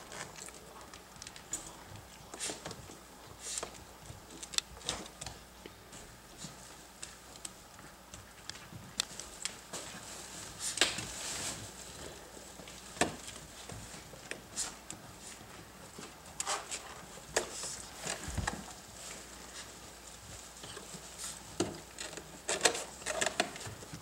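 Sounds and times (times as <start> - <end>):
puppies shifting on cot: 0.0 - 24.0.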